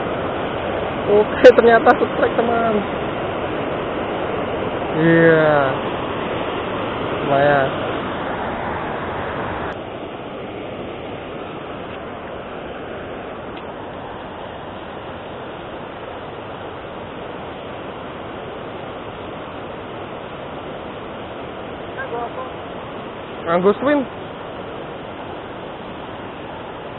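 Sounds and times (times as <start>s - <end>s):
water rushing over weir: 0.0s - 26.9s.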